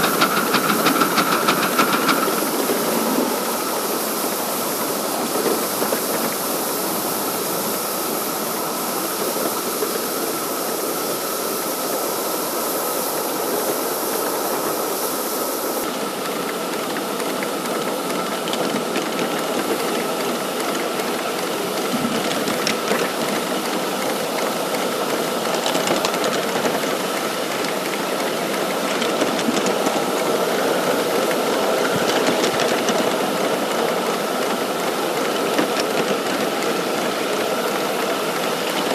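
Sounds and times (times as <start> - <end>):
high steam hiss: 0.0 - 38.9
model locomotive running with rattle: 0.0 - 38.9.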